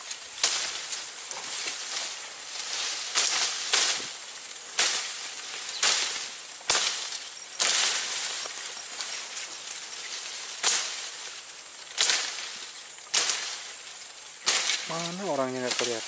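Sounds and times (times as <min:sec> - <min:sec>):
leaves and stems rustling: 0:00.0 - 0:16.0
sharp swishes through undergrowth: 0:00.0 - 0:16.0.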